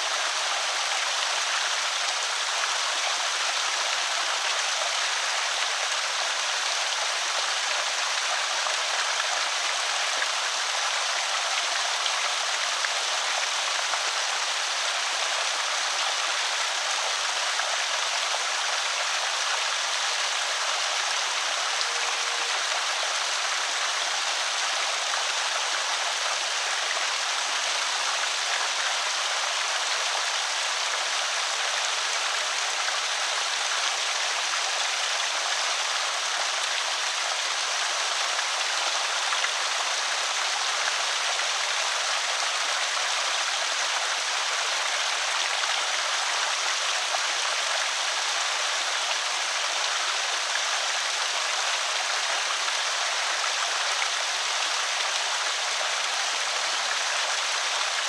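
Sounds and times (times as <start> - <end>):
water spilling over spillway: 0.0 - 58.0.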